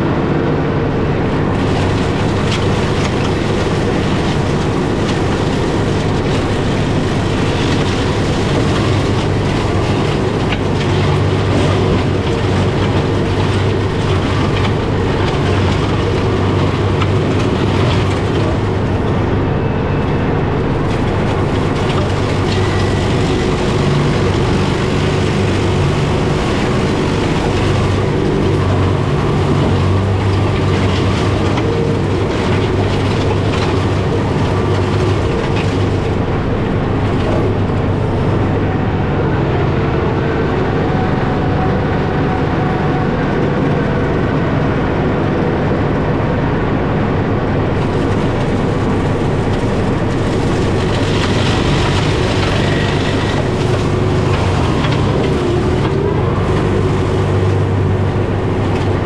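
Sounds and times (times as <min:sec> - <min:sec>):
flail mulcher shredding: 0:00.0 - 0:59.0
tractor diesel engine running: 0:00.0 - 0:59.0.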